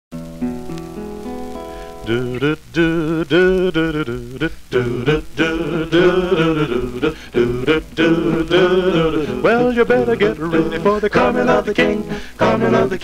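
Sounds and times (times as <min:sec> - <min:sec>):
men singing with heavy vibrato: 0:02.0 - 0:13.0.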